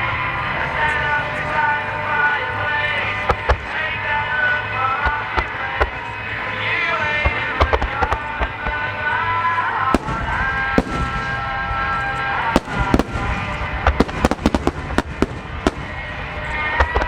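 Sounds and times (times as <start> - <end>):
music playing: 0.0 - 17.0
fireworks bursting: 3.0 - 17.0.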